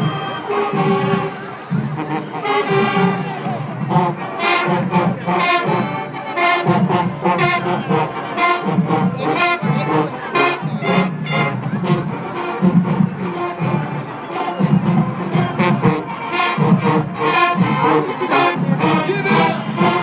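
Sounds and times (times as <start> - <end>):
brass melody: 0.0 - 20.0
steady drum beat: 0.0 - 20.0.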